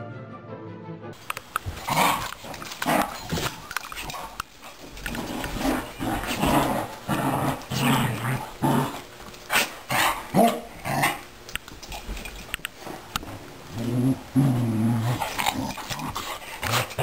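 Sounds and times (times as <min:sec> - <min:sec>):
dogs growling and snarling: 0:01.6 - 0:12.1, 0:12.8 - 0:17.0.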